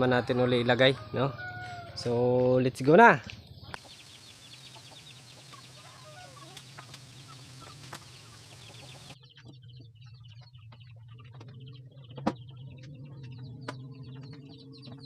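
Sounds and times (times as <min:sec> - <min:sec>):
faint chickens clucking: 0:00.0 - 0:15.0.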